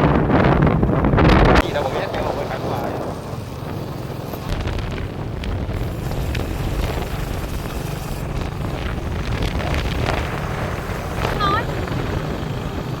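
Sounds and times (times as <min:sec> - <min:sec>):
engine humming: 0:00.0 - 0:13.0
wind buffeting microphone: 0:00.0 - 0:13.0.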